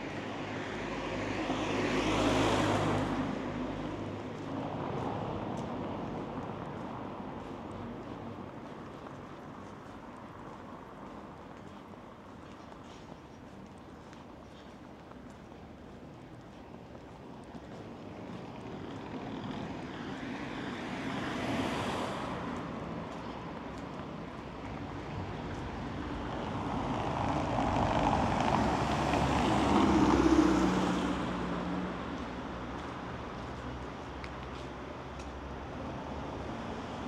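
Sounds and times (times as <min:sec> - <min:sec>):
vehicles passing: 0:00.0 - 0:37.0.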